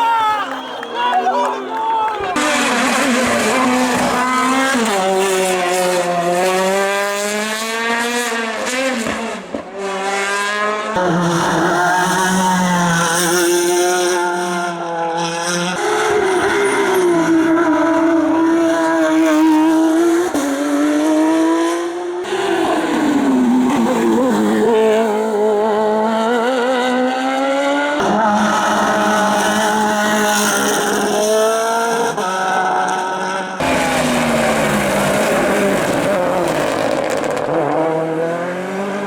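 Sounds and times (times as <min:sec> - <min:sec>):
race car engines revving: 0:00.4 - 0:39.0.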